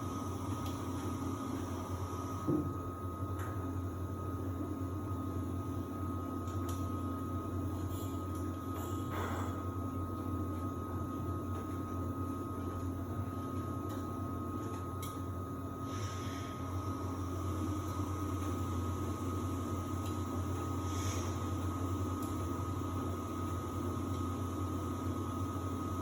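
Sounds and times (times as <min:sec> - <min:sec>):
washer-dryer humming: 0:00.0 - 0:26.0.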